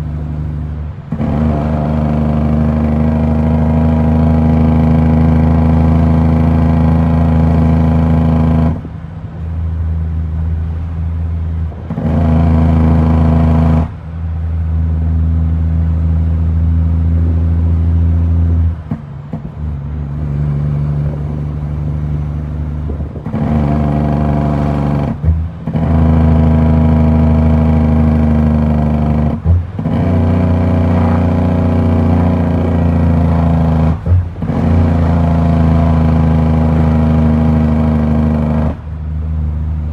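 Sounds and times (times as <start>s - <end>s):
diesel truck engine pulling: 0.0s - 39.9s.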